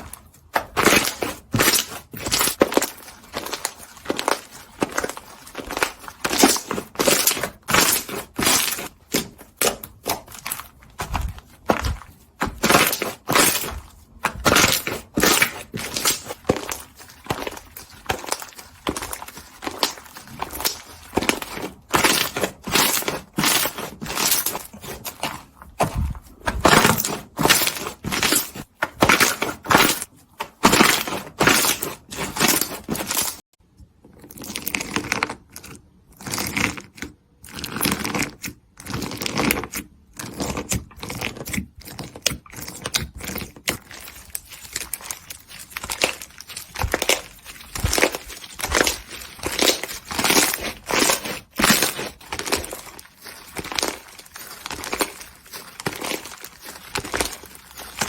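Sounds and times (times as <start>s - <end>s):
slime crackling and popping: 0.0s - 33.4s, 40.6s - 58.0s.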